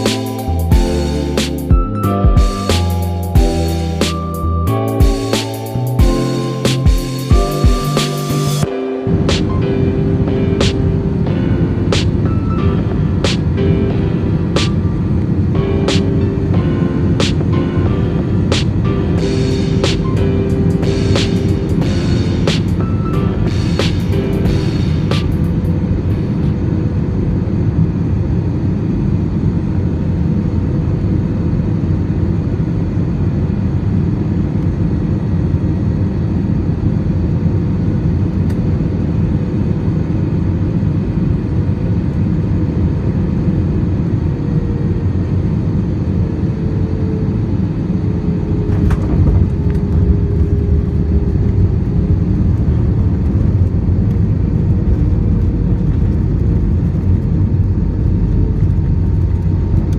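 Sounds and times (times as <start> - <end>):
airplane engine cabin rumble: 8.3 - 59.9.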